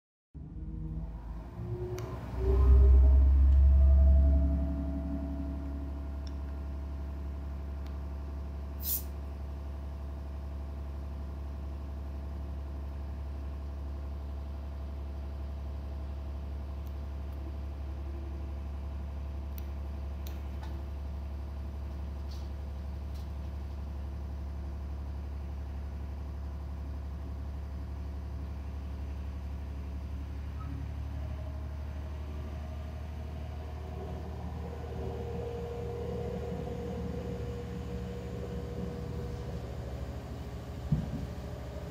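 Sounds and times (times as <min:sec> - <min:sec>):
diesel railcar engine droning: 0:00.4 - 0:41.9.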